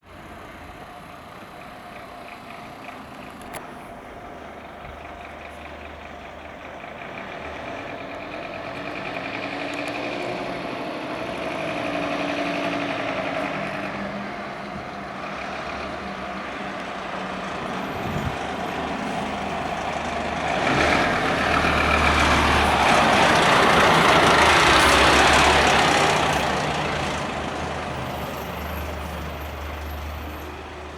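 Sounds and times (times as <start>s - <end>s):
fire engine driving past: 0.0s - 30.9s.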